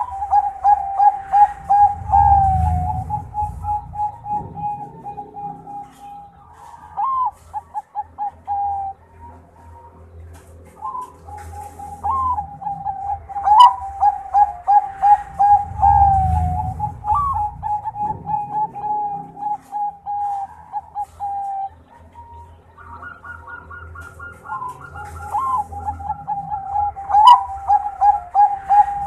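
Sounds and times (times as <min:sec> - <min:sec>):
low rumble: 0:00.0 - 0:07.7, 0:08.3 - 0:21.0, 0:24.2 - 0:29.0
dove cooing: 0:00.0 - 0:29.0.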